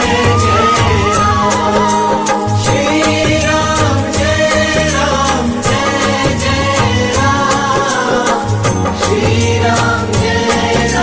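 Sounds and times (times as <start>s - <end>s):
film song music: 0.0s - 11.0s
steady drum beat: 0.0s - 11.0s.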